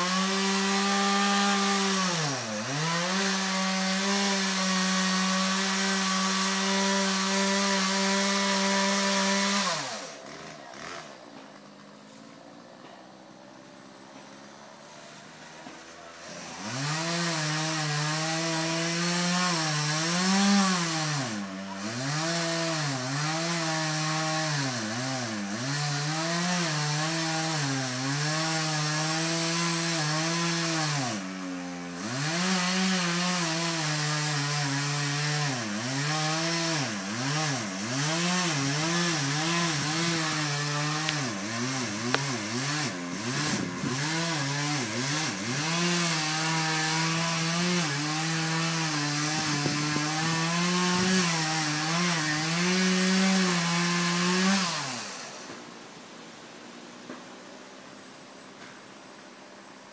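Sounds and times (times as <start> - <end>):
chainsaw cutting wood: 0.0 - 55.8.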